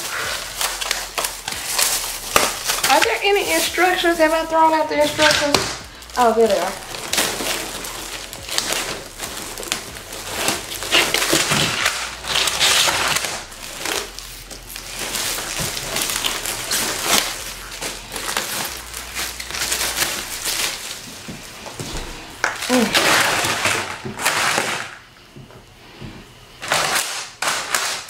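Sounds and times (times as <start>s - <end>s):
plastic bag crinkling: 0.0s - 25.1s, 26.6s - 28.0s.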